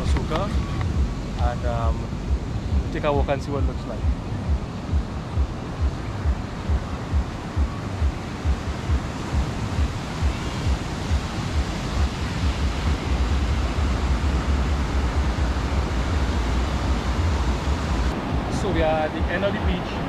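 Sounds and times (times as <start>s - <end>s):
sea surf washing on beach: 0.0s - 20.0s
wind buffeting microphone: 0.0s - 20.0s.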